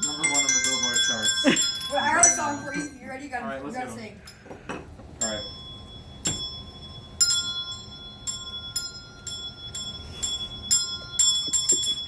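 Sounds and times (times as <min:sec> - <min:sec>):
handbells ringing: 0:00.0 - 0:03.3, 0:05.2 - 0:12.0.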